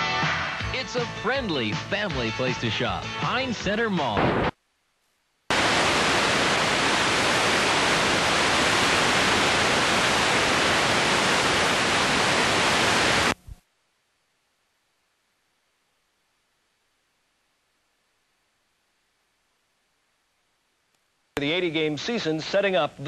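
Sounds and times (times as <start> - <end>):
television static hiss: 0.2 - 23.0.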